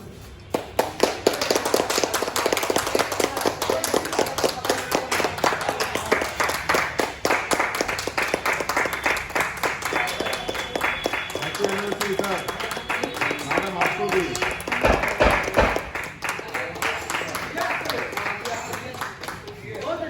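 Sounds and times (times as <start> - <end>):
people clapping: 0.4 - 20.0.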